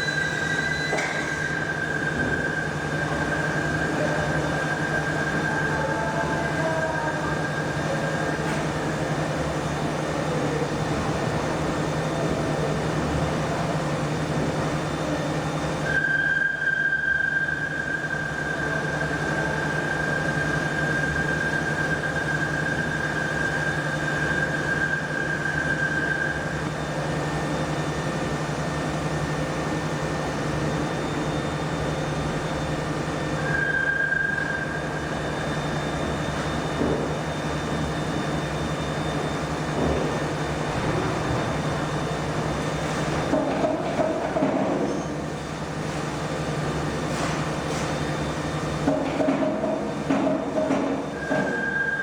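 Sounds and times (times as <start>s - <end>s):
workshop machinery hum: 0.0s - 52.0s.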